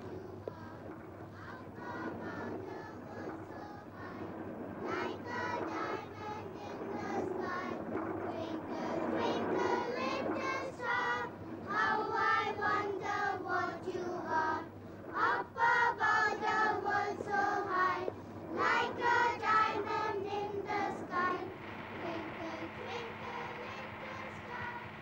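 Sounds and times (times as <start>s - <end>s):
child singing: 0.0s - 4.3s, 4.9s - 25.0s.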